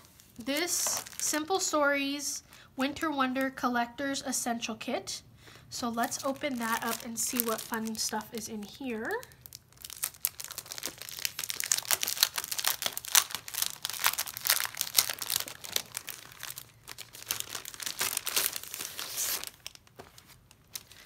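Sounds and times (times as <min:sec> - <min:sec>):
plastic packaging crinkling: 0:00.0 - 0:01.7, 0:05.8 - 0:21.0.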